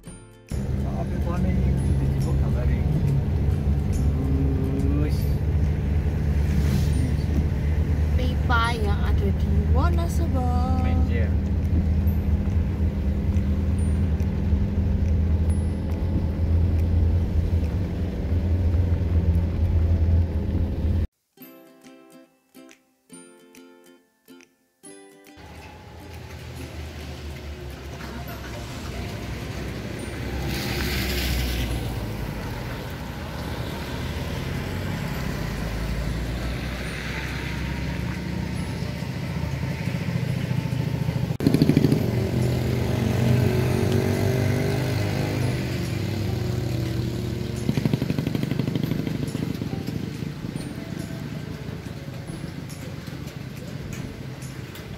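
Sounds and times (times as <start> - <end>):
vehicle engine rumbling: 0.0 - 21.1, 25.4 - 54.9
tyres hissing on wet road: 0.6 - 21.1, 25.4 - 54.9.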